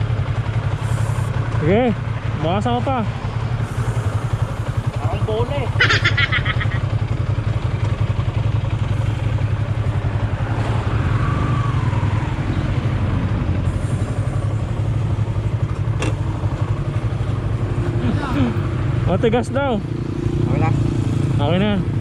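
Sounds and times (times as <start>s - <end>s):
small engine idling: 0.0s - 20.6s.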